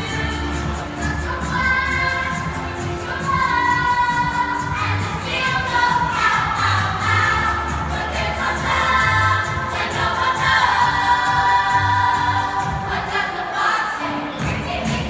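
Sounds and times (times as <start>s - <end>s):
backing track with steady beat: 0.0s - 13.2s, 14.4s - 15.0s
youth choir singing: 0.0s - 15.0s.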